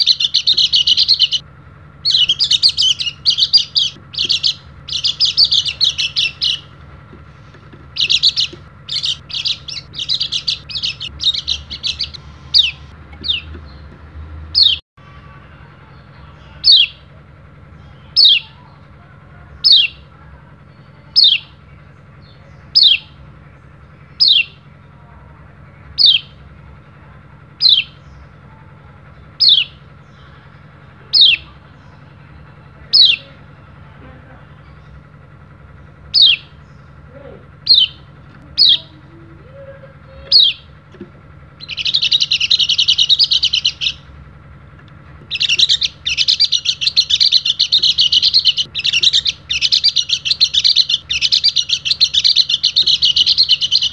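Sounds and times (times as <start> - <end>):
bird twittering: 0.0 - 14.8, 16.1 - 17.1, 17.7 - 18.9, 19.6 - 25.0, 25.6 - 33.8, 34.4 - 53.9.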